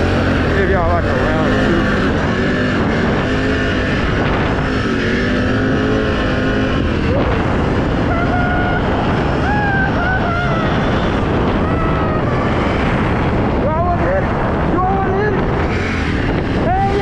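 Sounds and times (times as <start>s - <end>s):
atv engine running: 0.0s - 17.0s
wind on microphone: 0.0s - 17.0s.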